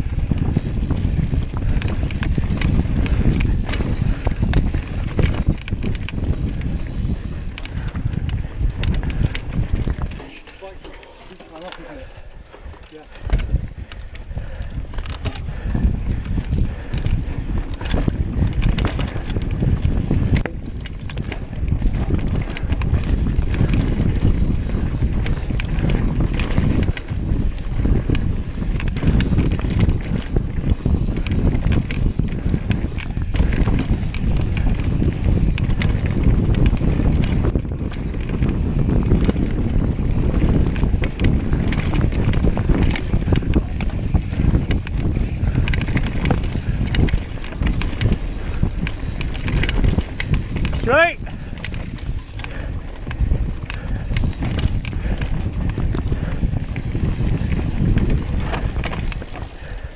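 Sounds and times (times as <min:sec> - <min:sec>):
bike rattling over bumps: 0:00.0 - 0:59.9
bike tyre rumble: 0:00.0 - 0:59.9
wind buffeting microphone: 0:00.0 - 0:59.9.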